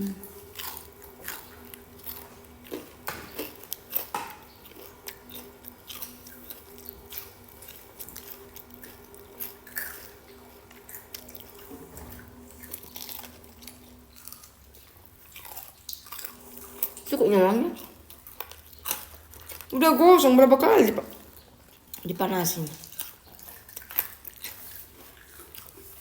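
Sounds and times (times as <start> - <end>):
chewing and crunching: 0.0 - 26.0
faint steady hum: 0.0 - 26.0.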